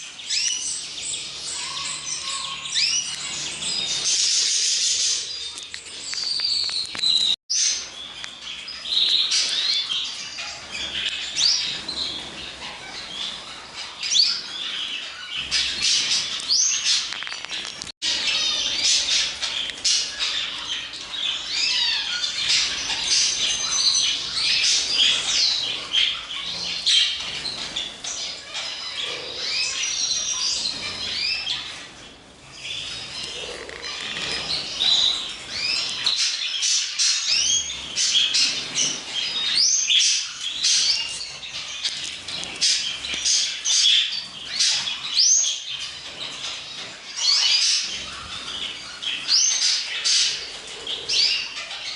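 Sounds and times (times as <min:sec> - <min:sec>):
birds chirping and squawking: 0:00.0 - 0:51.9.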